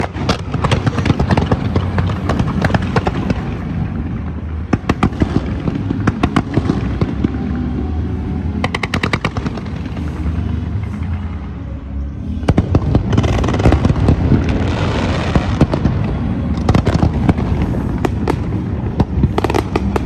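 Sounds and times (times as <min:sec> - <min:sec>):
fireworks cracking and banging: 0:00.0 - 0:11.6, 0:12.3 - 0:20.0
fireworks crackling: 0:00.0 - 0:11.6, 0:12.2 - 0:20.0
low rumble: 0:00.0 - 0:20.0.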